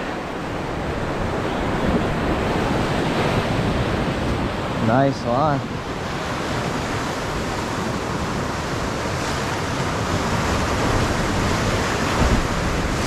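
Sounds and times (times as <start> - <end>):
ocean surf breaking on rocks: 0.0 - 13.0.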